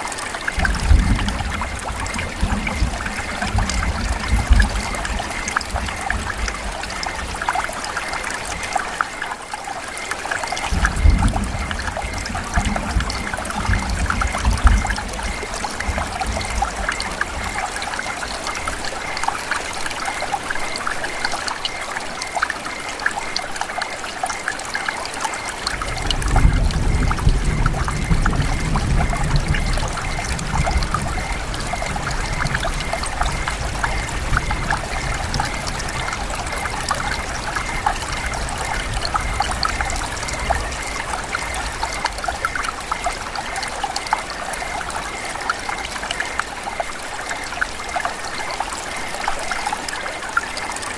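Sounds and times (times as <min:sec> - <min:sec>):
rain falling: 0:00.0 - 0:50.9
water trickling: 0:00.0 - 0:50.9.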